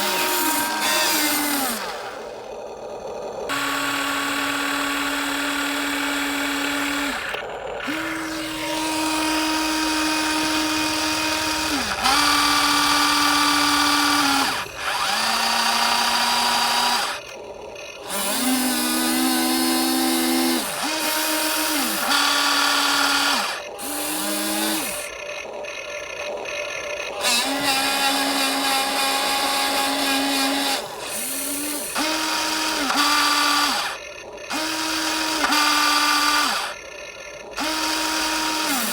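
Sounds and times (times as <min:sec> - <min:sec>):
electric motors whirring: 0:00.0 - 0:38.9.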